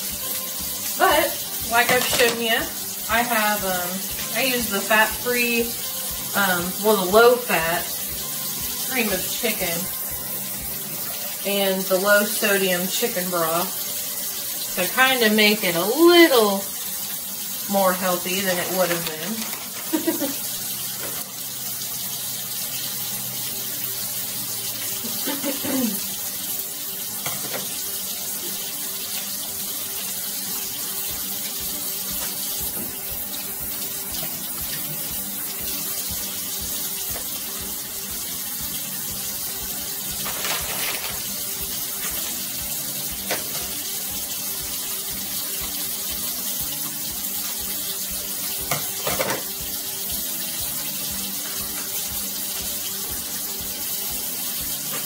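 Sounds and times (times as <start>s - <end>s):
water running from tap into sink: 0.0s - 55.0s.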